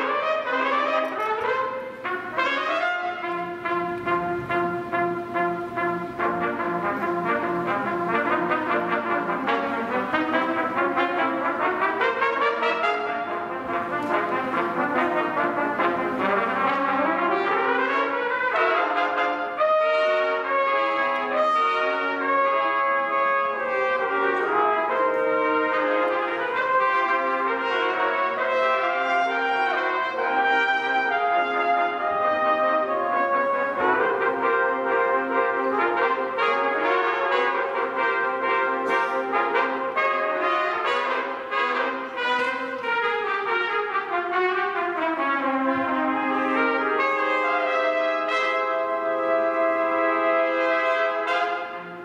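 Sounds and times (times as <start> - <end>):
brass ensemble playing: 0.0 - 52.0.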